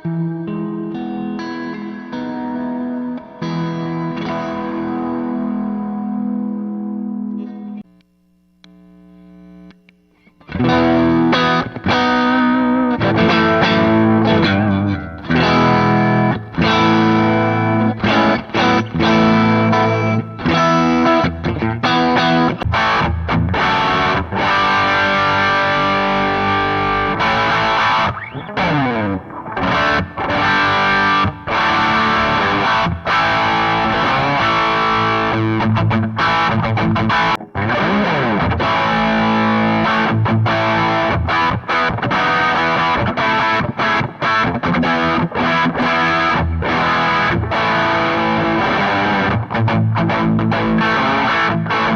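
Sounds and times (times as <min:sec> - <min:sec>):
distorted electric guitar: 0:00.0 - 0:51.9.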